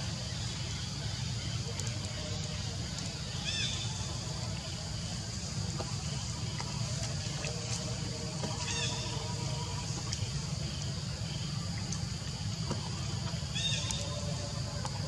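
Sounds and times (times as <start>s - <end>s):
steady high hiss: 0.0s - 14.8s.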